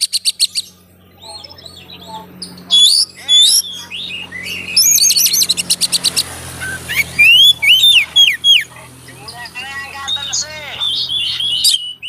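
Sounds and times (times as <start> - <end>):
bird singing whistled phrases: 0.0 - 8.7, 10.0 - 12.0.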